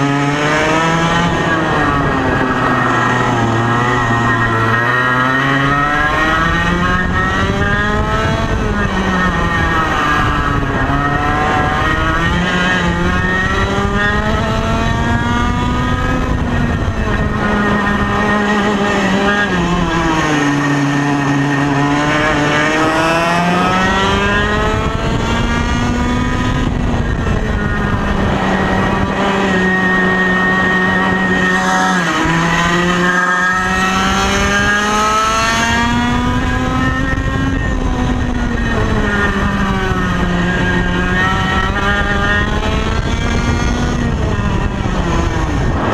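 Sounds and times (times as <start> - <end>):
kart engine buzzing: 0.0 - 45.9.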